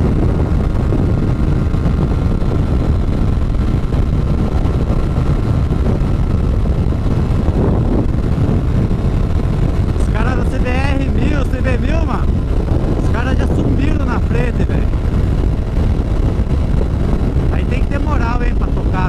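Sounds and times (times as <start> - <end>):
motorcycle engine drone: 0.0 - 19.0
wind rushing over microphone: 0.0 - 19.0.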